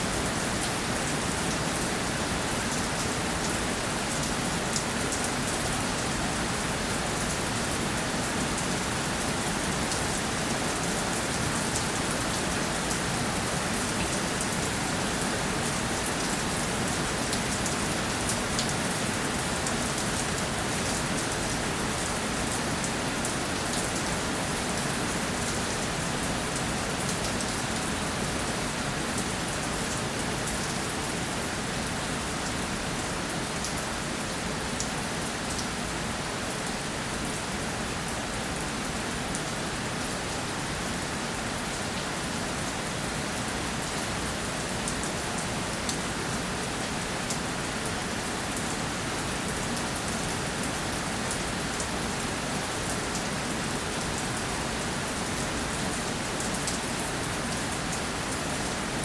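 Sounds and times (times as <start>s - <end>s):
rain pattering on a surface: 0.0s - 59.0s.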